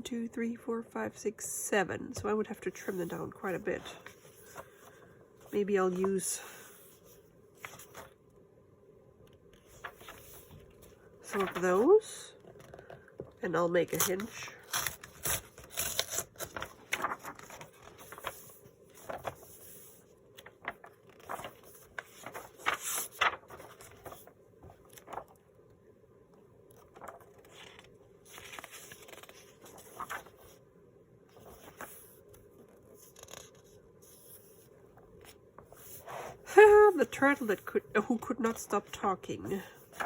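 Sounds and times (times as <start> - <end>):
paper pages rustling: 2.9 - 8.2, 9.5 - 13.0, 13.8 - 25.4, 26.7 - 30.6, 31.3 - 40.0.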